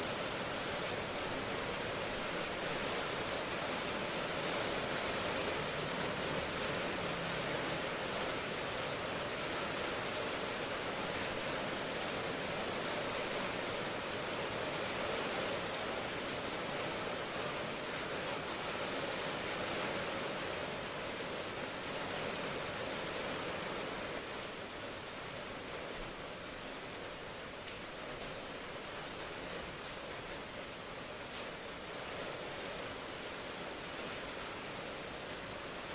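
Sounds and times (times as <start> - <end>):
steady rain hiss: 0.0 - 35.9.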